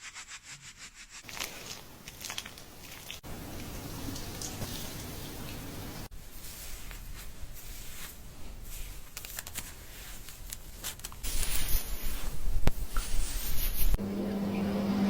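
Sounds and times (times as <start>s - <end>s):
fingers scrubbing hair: 0.0s - 14.0s.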